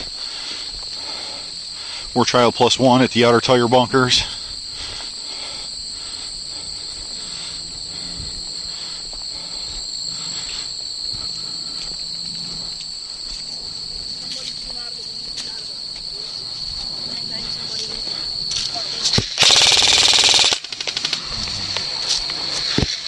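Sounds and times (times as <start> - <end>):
crickets and insects chirping: 0.0 - 23.0.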